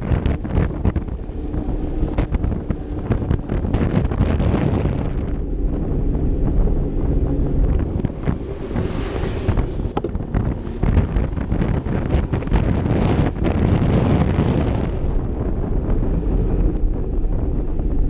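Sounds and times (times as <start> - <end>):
scooter and road rumble: 0.0 - 18.0
wind buffeting microphone: 0.0 - 18.0.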